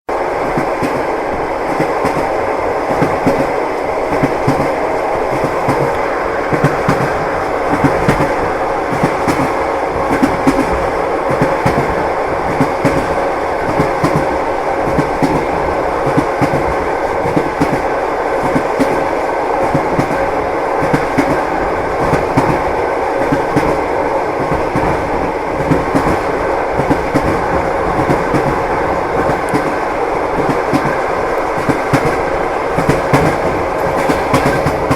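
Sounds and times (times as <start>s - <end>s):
train rumbling: 0.1s - 34.9s.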